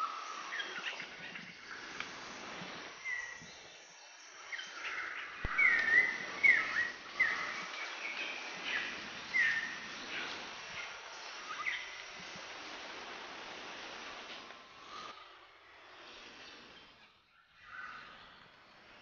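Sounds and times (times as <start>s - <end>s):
birds chirping: 0.0s - 19.0s
steady outdoor hiss: 0.0s - 19.0s.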